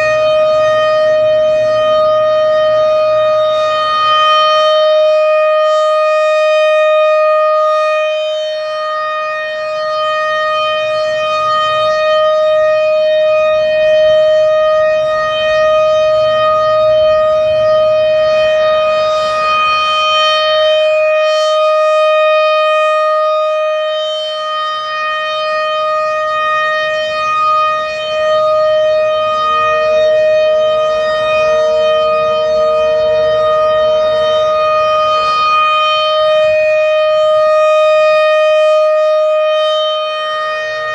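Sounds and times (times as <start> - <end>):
fainter lower siren tone: 0.0 - 40.9
rotating warning siren: 0.0 - 40.9.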